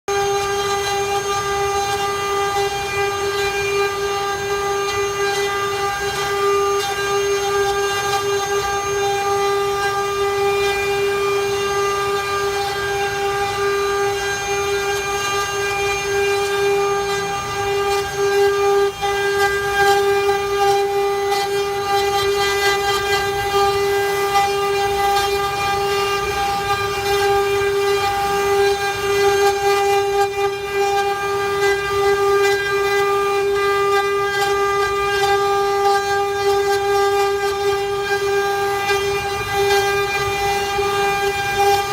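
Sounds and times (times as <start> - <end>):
bit cutting wood: 0.1 - 41.9
router spindle high whine: 0.1 - 41.9.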